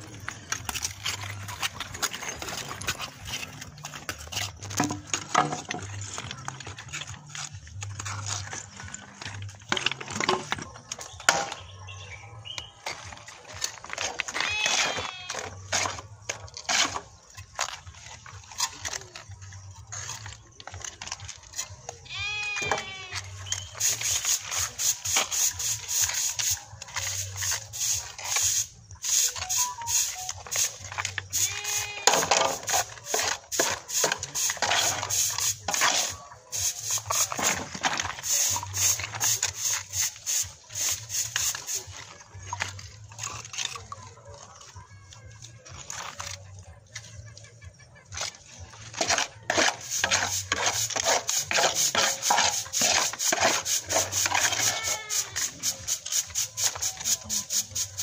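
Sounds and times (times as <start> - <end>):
trowels scraping and tapping: 0.0 - 58.0.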